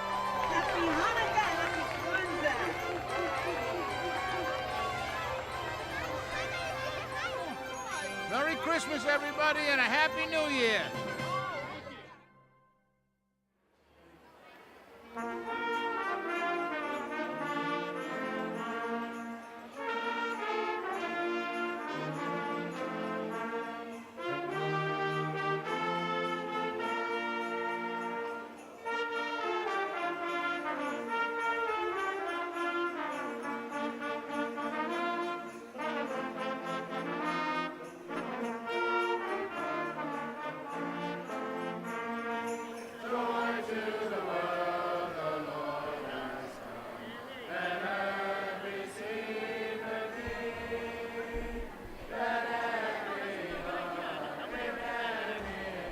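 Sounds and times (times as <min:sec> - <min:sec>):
brass music playing held chords: 0:00.0 - 0:12.3, 0:15.1 - 0:55.9.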